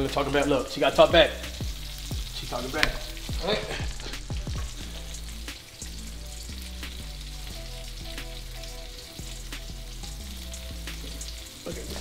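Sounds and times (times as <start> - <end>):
low background music: 0.0 - 12.0
meat sizzling in oil: 0.0 - 12.0.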